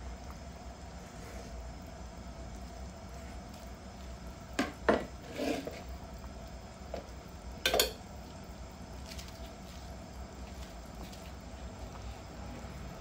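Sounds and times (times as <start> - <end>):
broth simmering with low bubbling: 0.0 - 13.0.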